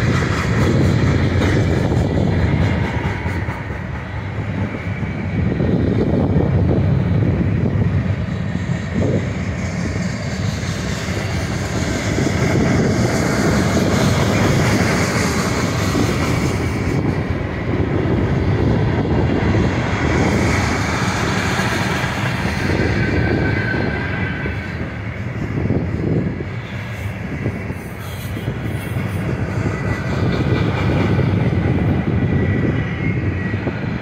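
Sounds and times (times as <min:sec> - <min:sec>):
train wheels on rails: 0:00.0 - 0:34.0.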